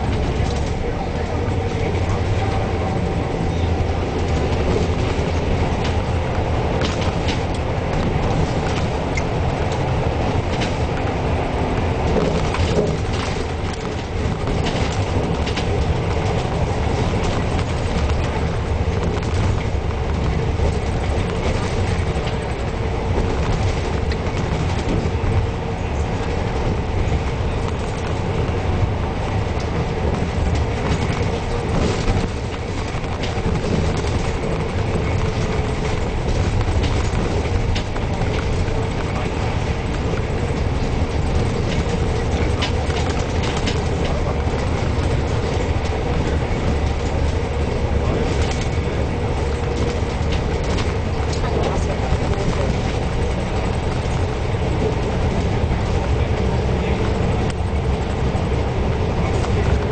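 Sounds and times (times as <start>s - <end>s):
body clicks and rattles: 0.0s - 59.9s
bus engine and road rumble: 0.0s - 59.9s.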